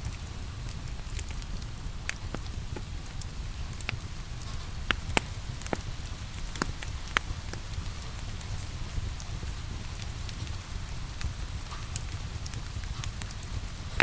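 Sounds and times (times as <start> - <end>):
soft rain patter: 0.0 - 14.0
wood fire crackling: 0.0 - 14.0.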